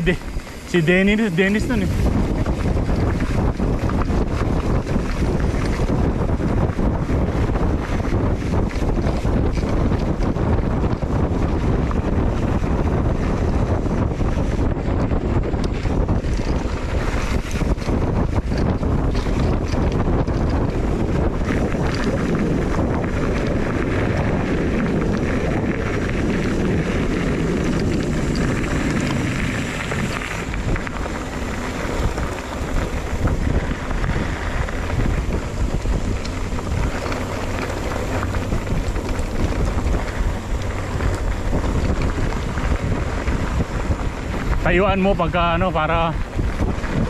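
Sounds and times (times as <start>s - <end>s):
bike knocks and rattles: 0.0s - 47.0s
wind rumble on microphone: 0.0s - 47.0s.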